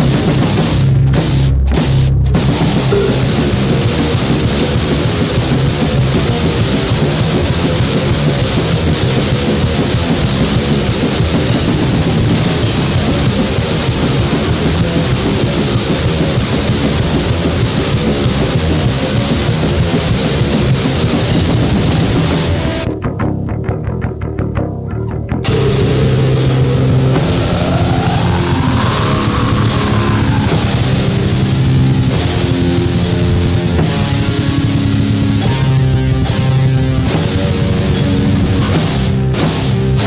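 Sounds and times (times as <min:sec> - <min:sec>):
heavy metal band playing: 0:00.0 - 0:40.0.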